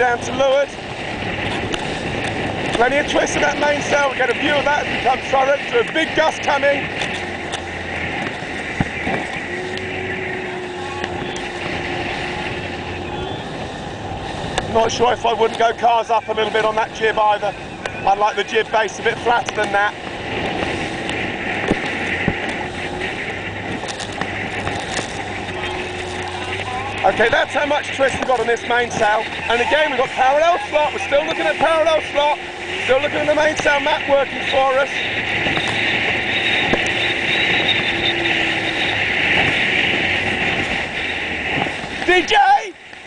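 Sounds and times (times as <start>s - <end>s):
outboard motor running: 0.0s - 43.0s
rushing water: 0.0s - 43.0s
wind buffeting microphone: 0.0s - 43.0s.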